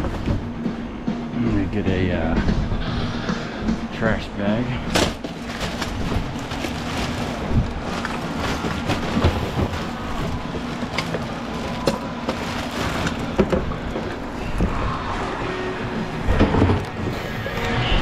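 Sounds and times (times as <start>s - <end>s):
machine rumble: 0.0s - 18.0s.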